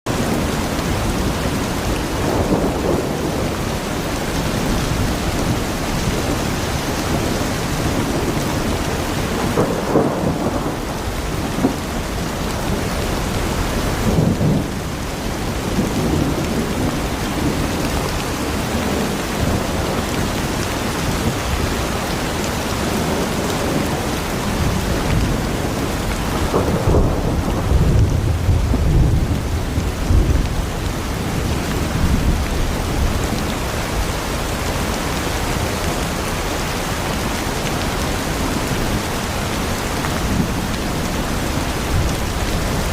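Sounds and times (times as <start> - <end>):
heavy rain hissing: 0.1 - 42.9
thunder rumbling: 0.1 - 42.9.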